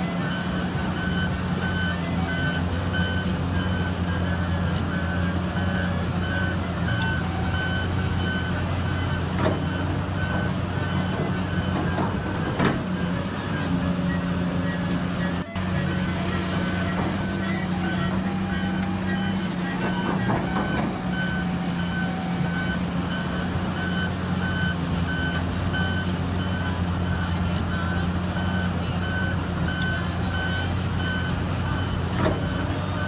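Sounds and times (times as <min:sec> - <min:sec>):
heavy diesel machinery running: 0:00.0 - 0:33.0
reversing alarm beeping: 0:00.0 - 0:33.0.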